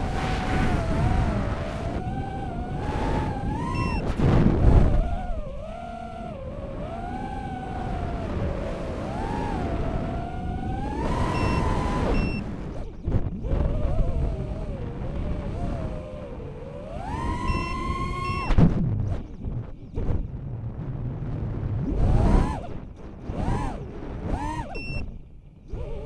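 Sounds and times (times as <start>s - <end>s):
wind rushing: 0.0s - 24.7s
drone motors whining: 0.0s - 26.0s.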